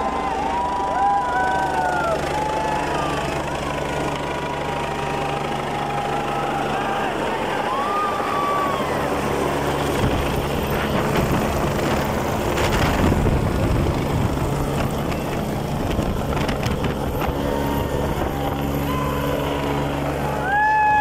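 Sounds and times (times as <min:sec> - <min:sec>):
helicopter flying overhead: 0:00.0 - 0:21.0.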